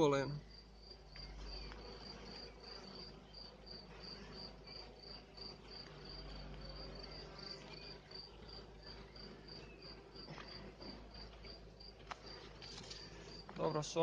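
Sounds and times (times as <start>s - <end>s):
honeybees humming: 0.0s - 14.0s
cricket chirping: 0.4s - 13.5s.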